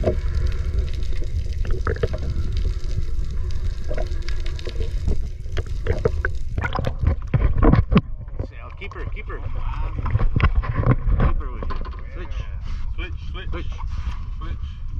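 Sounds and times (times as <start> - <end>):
water sloshing and splashing: 0.0 - 12.4
steady low rumble: 0.0 - 14.9.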